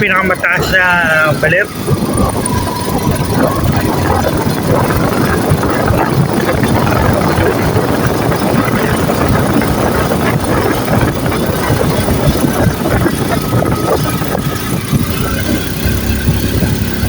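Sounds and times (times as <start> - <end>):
loud dense rumble: 0.0 - 17.0
vehicle engine running: 0.0 - 17.0.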